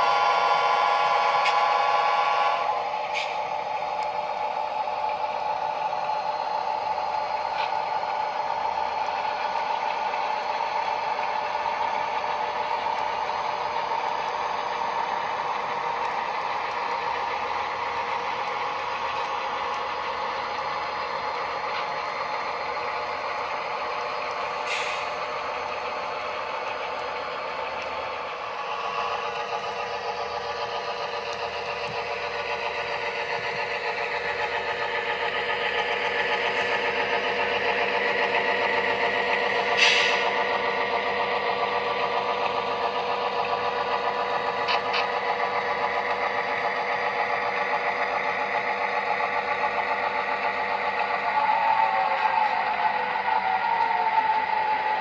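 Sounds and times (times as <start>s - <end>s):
model diesel engine: 0.0s - 55.0s
model train wheels clattering on rails: 1.0s - 55.0s.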